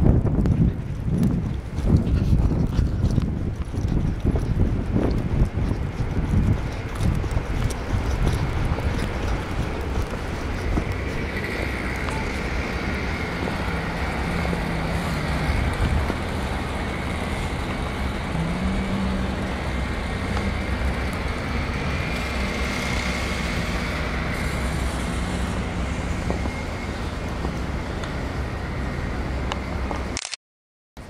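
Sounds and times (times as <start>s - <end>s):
faint engine hum: 0.0s - 30.2s
road traffic rumble: 0.0s - 30.2s.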